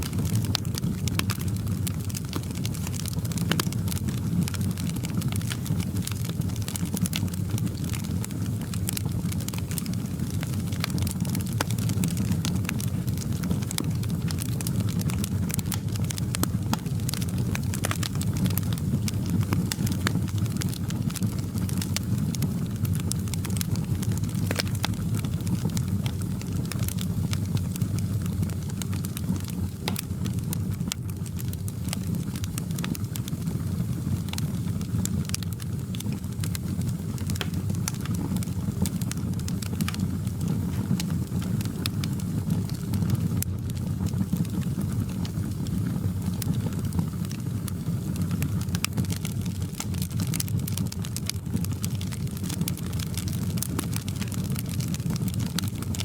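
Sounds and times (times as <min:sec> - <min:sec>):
fire popping and crackling: 0:00.0 - 0:56.0
low rumble of flames: 0:00.0 - 0:56.0.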